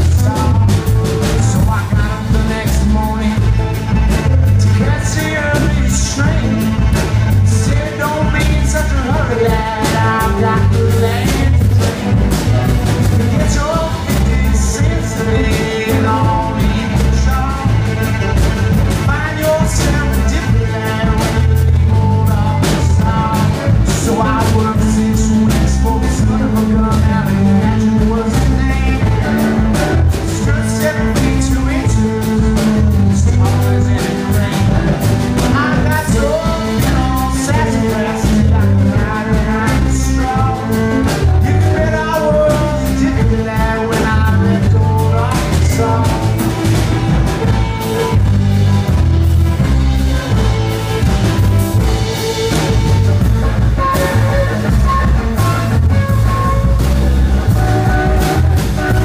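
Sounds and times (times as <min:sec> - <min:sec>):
drum kit: 0:00.0 - 0:59.0
electric and acoustic guitars: 0:00.0 - 0:59.0
fiddle: 0:00.0 - 0:59.0
upright bass: 0:00.0 - 0:59.0.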